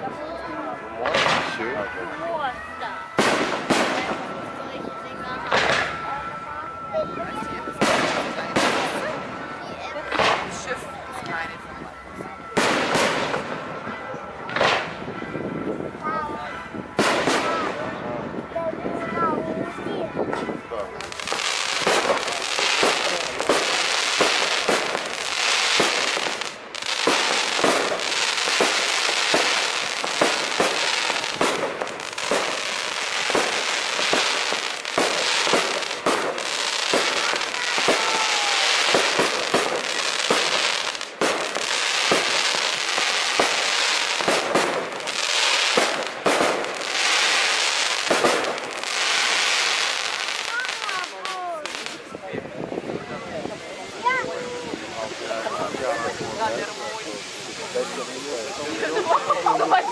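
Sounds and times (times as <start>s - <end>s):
fireworks bangs: 0.0s - 11.6s, 12.4s - 15.6s, 16.3s - 59.9s
fireworks crackling: 0.0s - 59.9s.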